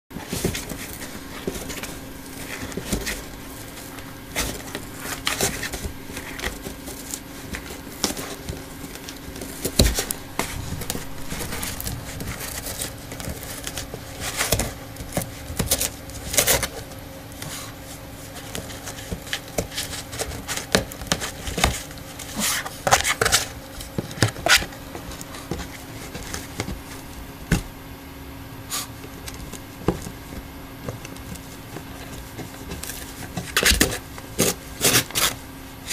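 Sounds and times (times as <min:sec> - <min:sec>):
dog chewing cardboard box: 0:00.2 - 0:28.0, 0:28.6 - 0:35.9.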